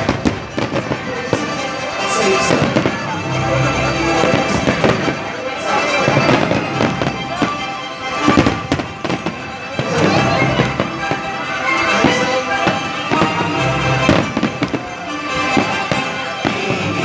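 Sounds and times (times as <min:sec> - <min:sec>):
background music: 0:00.0 - 0:17.0
fireworks bangs and pops: 0:00.0 - 0:17.0.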